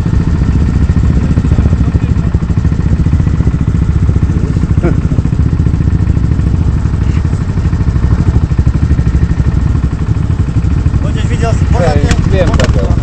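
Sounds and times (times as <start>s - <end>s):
quad bike engine idling: 0.0s - 13.0s.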